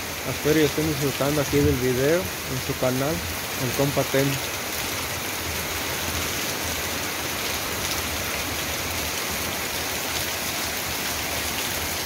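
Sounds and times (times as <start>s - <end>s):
rain on cobblestones: 0.0s - 12.0s.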